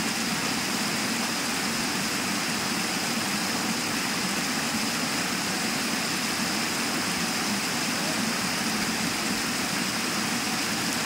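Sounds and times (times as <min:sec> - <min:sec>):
water rushing down rock: 0:00.0 - 0:11.0.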